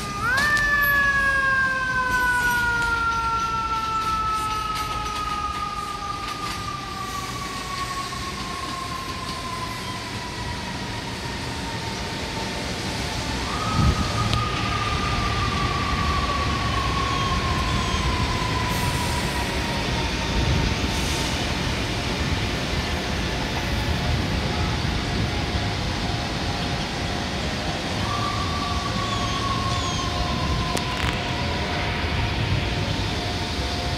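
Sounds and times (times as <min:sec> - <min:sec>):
emergency siren wailing: 0:00.0 - 0:33.9
low rumble of trains and traffic: 0:00.0 - 0:33.9.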